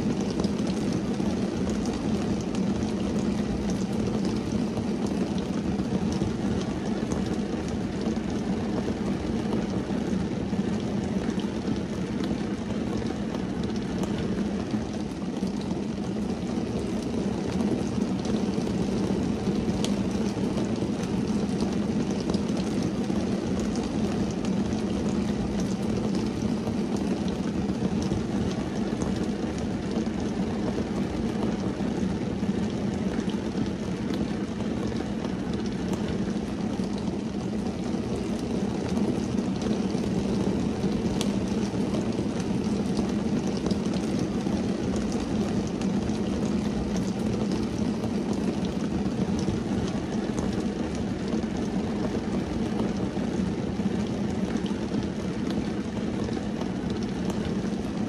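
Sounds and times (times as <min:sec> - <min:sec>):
rain on a car windscreen: 0:00.0 - 0:58.0.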